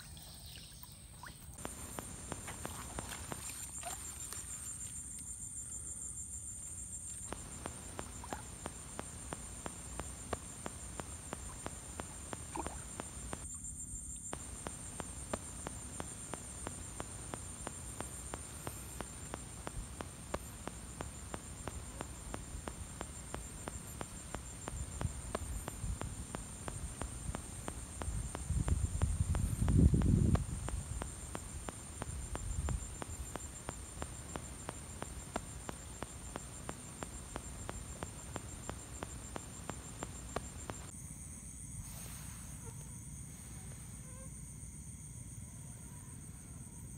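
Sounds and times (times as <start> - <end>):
crickets trilling: 0.0 - 46.9
faint ticks and clicks: 0.5 - 40.9.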